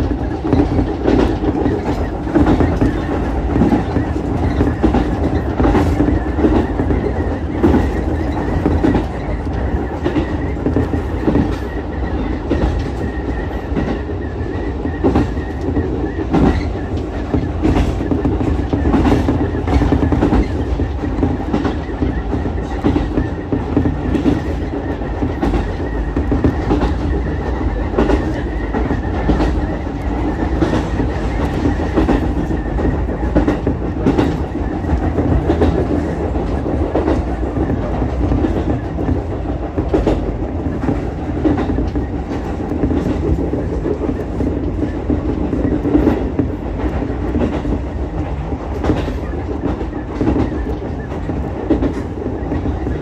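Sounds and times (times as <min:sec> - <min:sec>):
electric railcar running rumble: 0:00.0 - 0:53.0
wheels clicking over rail joints: 0:00.0 - 0:53.0.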